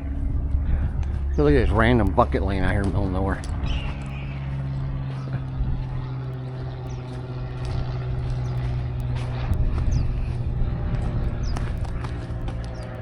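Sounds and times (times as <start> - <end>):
propeller airplane droning: 0.0 - 13.0.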